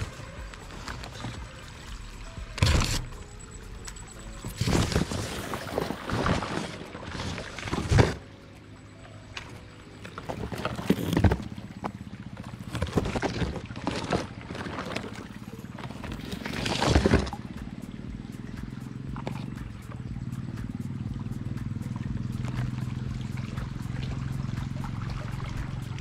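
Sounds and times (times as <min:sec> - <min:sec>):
water gurgling and splashing: 0:00.0 - 0:26.0.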